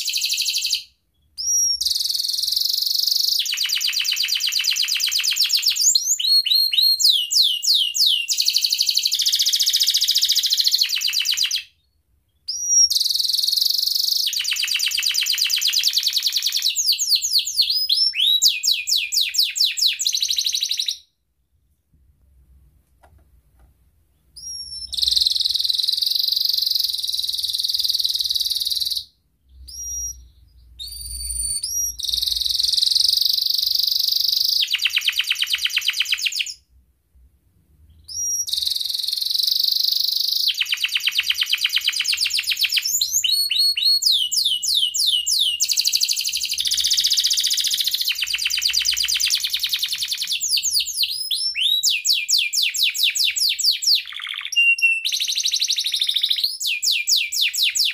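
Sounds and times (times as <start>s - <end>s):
canary singing trills: 0.0s - 21.1s, 24.2s - 36.6s, 37.9s - 57.9s.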